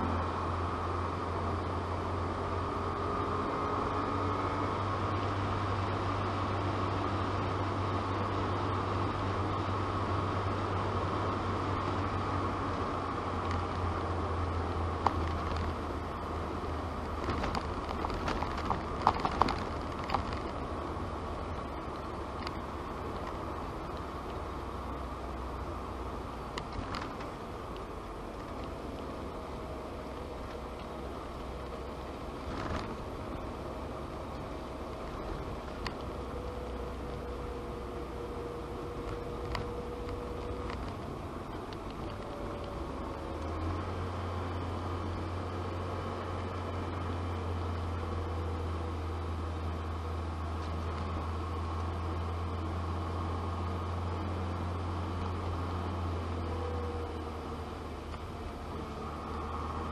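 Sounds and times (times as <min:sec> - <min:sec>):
car engine droning: 0:00.0 - 0:59.9
tyre and road noise: 0:00.0 - 0:59.9.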